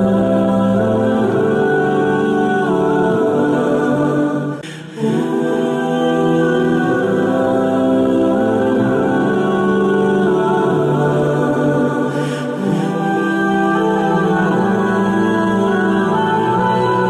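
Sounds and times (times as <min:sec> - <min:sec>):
a cappella voices singing: 0:00.0 - 0:17.0.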